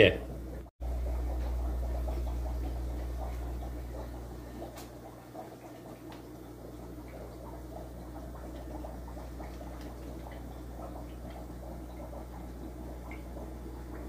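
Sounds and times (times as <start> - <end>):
aquarium air stones bubbling: 0.0 - 14.0
low hum: 0.0 - 14.0.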